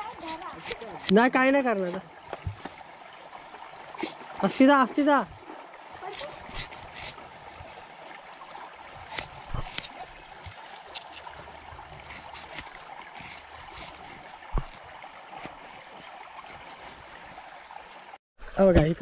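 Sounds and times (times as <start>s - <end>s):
river water flowing over rocks: 0.0s - 18.2s.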